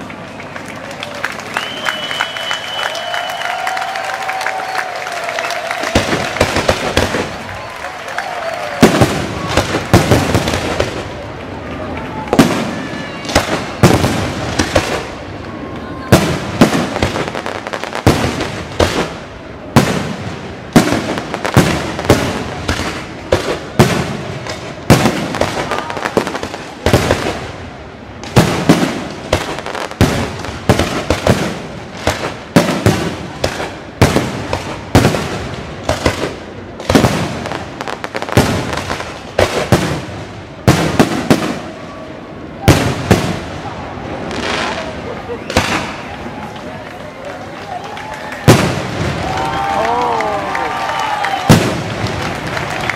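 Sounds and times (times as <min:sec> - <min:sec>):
fireworks crackle: 0:00.0 - 0:52.9
fireworks bursting with bangs: 0:05.5 - 0:46.6, 0:48.2 - 0:52.9.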